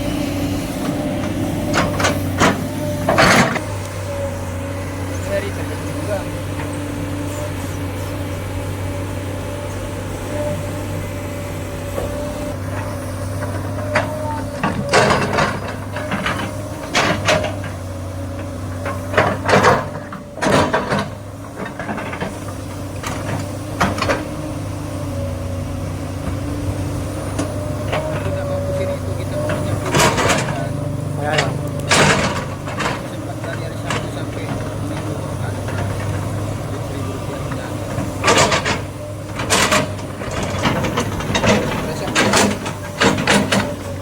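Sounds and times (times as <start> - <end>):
excavator diesel engine running: 0.0 - 44.0
loud sharp machine noises: 0.0 - 44.0.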